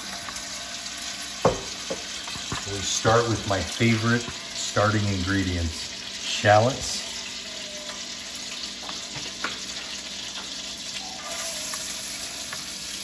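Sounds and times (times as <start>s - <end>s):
oil sizzling in skillet: 0.0s - 13.0s.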